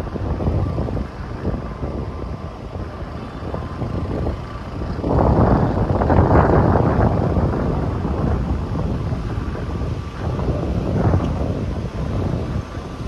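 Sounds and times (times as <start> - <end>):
road traffic: 0.0 - 13.0
wind rumble on microphone: 0.0 - 13.0.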